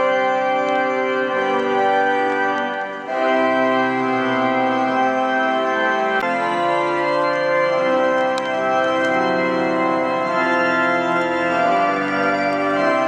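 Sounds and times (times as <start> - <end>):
organ playing held chords: 0.0 - 13.0.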